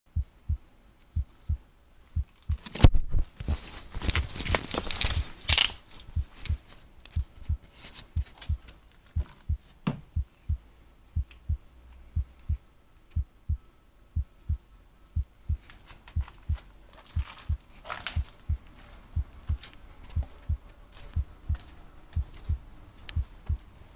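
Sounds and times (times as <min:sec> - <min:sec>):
low rhythmic thumping: 0:00.1 - 0:02.6, 0:06.1 - 0:23.8
rustling: 0:01.0 - 0:13.2, 0:15.5 - 0:23.9.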